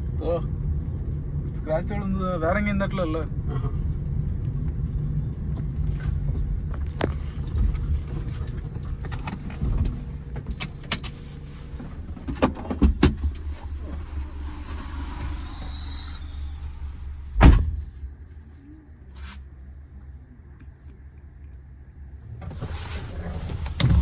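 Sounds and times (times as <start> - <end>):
car rumble inside cabin: 0.0 - 18.5, 22.0 - 24.0.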